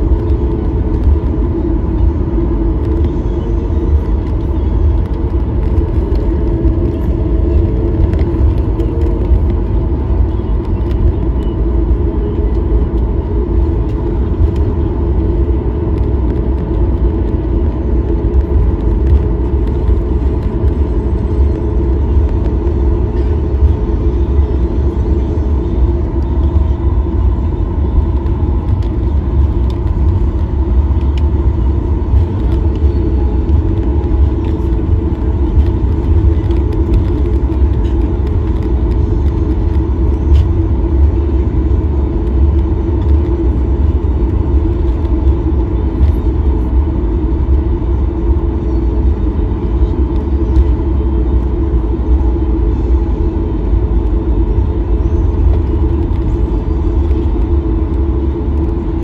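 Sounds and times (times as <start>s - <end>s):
jet engines rumbling: 0.0s - 59.0s
steady hum: 0.0s - 59.0s.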